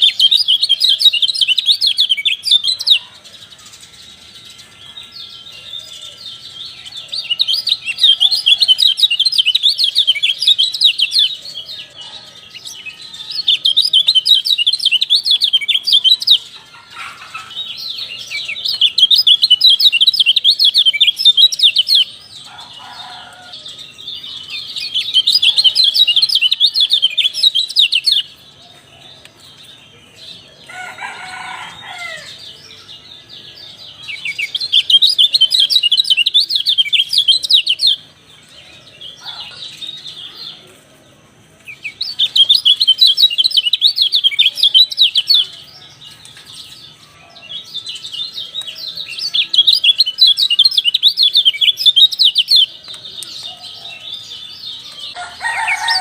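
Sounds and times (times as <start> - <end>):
songbird twittering song: 0.0 - 56.0.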